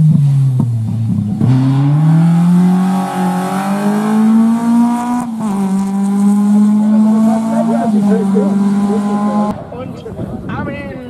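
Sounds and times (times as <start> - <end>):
car engine accelerating hard: 0.0 - 9.6
engine crackles: 0.5 - 9.6.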